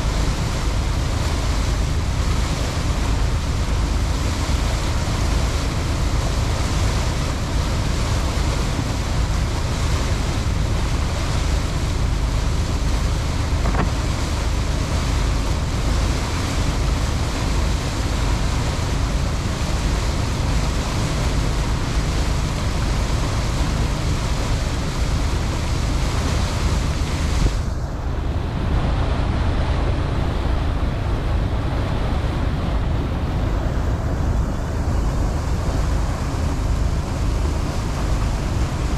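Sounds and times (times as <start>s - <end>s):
boat engine rumble: 0.0s - 38.9s
water rushing past: 0.0s - 38.9s
wind buffeting microphone: 0.0s - 38.9s.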